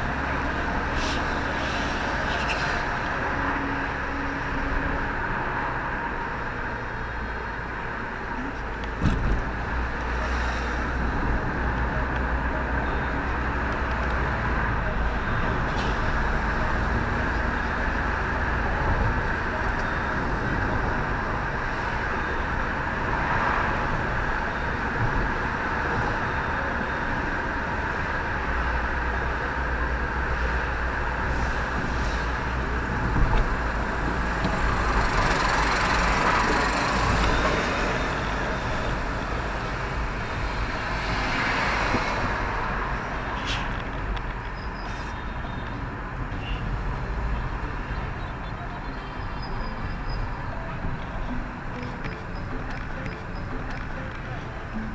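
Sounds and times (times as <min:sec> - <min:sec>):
motor vehicle road noise: 0:00.0 - 0:54.9.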